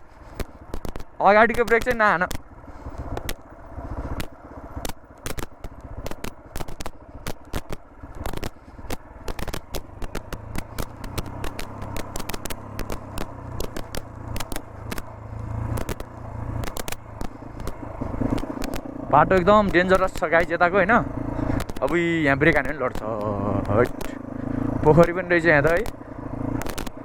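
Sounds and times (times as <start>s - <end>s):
bike rattling over bumps: 0.0s - 27.0s
motorcycle engine rumble: 0.0s - 27.0s
stones clicking under tyres: 0.0s - 27.0s.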